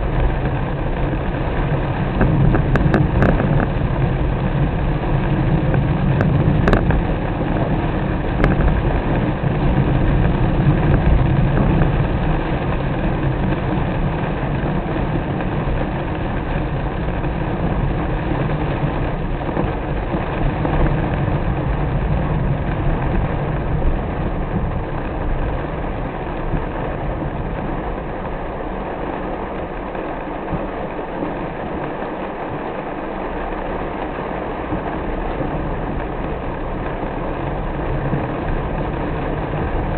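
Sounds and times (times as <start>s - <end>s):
road noise in rain: 0.0s - 39.9s.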